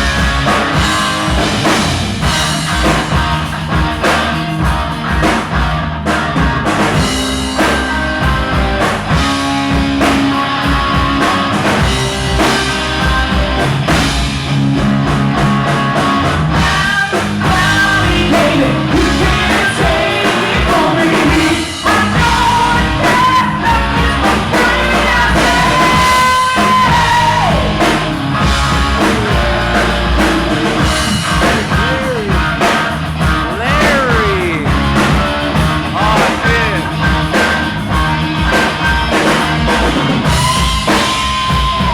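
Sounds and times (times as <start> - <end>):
electric guitar: 0.0 - 41.9
rock band playing: 0.0 - 41.9.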